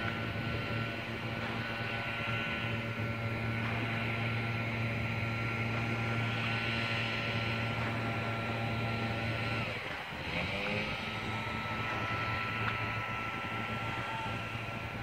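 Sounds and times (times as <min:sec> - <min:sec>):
engine drone: 0:00.0 - 0:15.0
high whine: 0:00.0 - 0:15.0.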